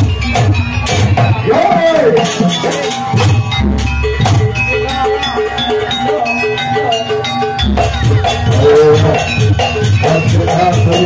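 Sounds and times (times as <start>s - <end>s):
drums: 0.0s - 11.0s.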